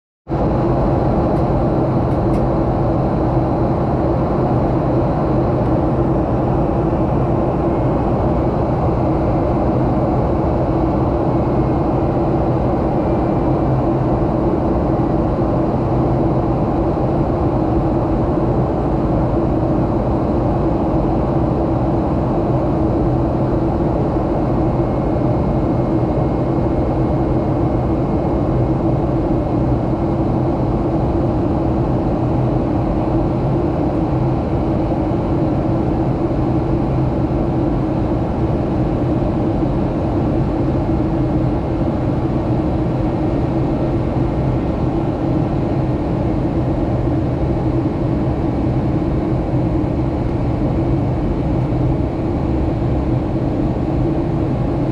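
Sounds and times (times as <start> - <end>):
airliner cabin engine drone: 0.3 - 54.9.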